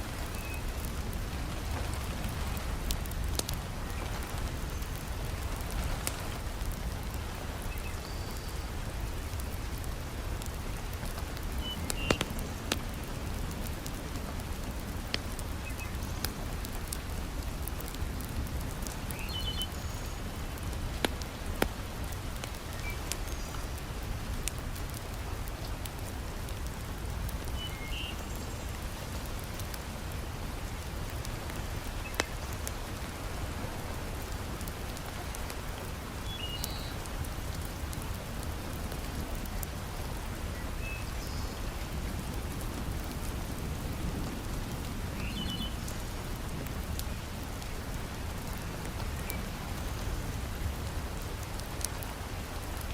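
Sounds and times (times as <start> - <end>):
wood fire crackling and popping: 0.0 - 27.6, 28.2 - 40.8, 41.6 - 52.9
heavy rain falling: 0.0 - 52.9.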